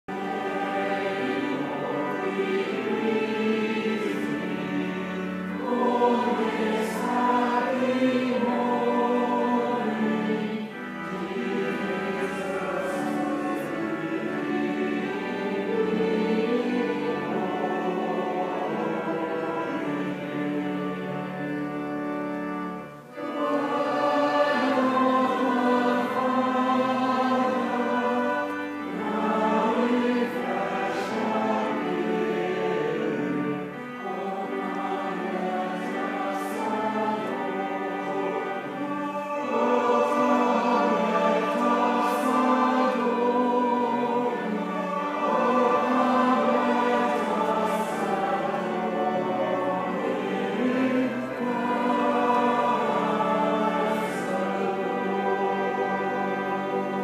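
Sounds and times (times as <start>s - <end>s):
choir singing long notes: 0.0s - 57.0s.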